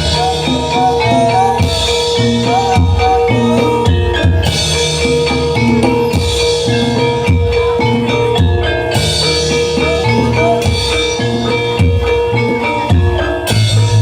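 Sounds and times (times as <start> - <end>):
drums beating rhythm: 0.0 - 14.0
tuned metal percussion ringing: 0.0 - 14.0
wavering melody line: 0.0 - 14.0.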